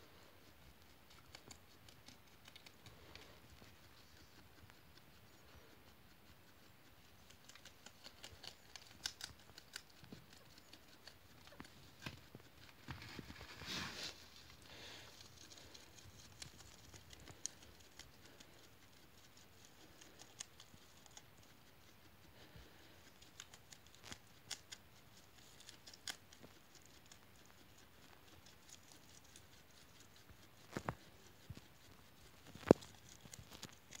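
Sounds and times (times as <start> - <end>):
guinea pig crunching vegetables: 0.1 - 34.0.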